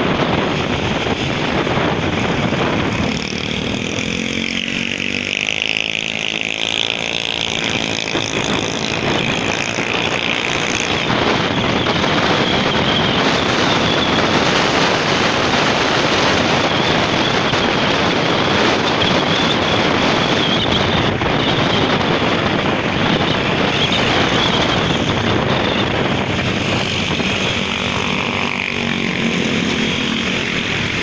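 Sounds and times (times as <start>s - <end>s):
motorcycle engine: 0.0s - 31.0s
road noise: 0.0s - 31.0s
wind rushing over microphone: 0.0s - 31.0s.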